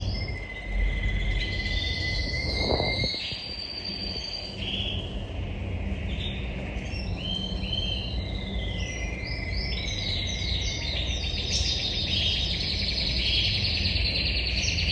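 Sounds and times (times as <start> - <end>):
canary singing trills: 0.0 - 5.3, 6.0 - 14.9
low background hum: 0.0 - 14.9.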